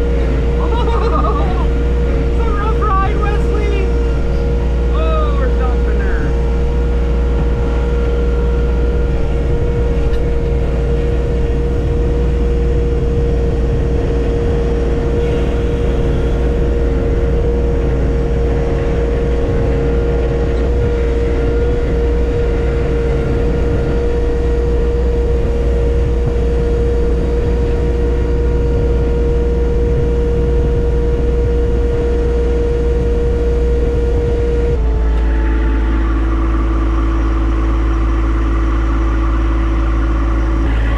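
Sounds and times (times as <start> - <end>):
diesel tractor engine running: 0.0 - 40.9
steady whine: 0.0 - 40.9.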